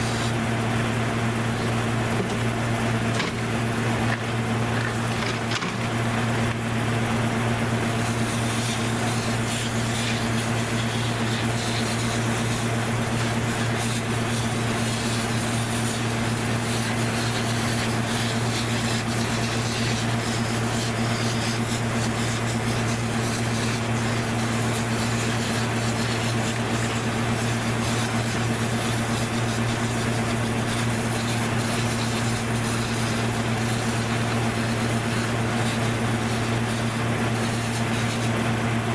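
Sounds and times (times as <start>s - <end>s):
small engine humming: 0.0s - 38.9s.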